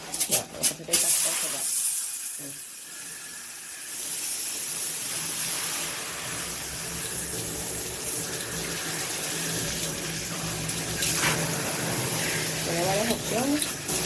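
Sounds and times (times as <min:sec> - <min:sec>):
water spraying from shower head: 0:00.0 - 0:14.0.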